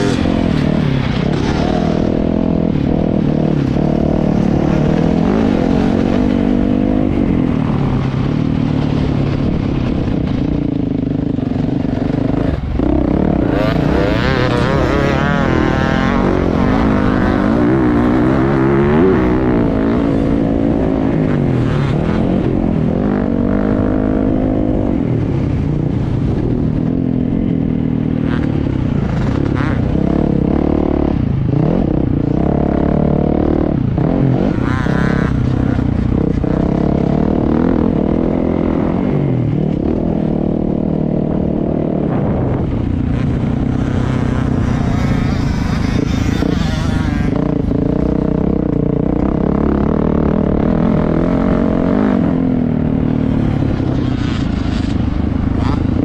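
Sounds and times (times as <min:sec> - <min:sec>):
dirt bike engine revving: 0:00.0 - 0:25.0, 0:28.1 - 0:56.0.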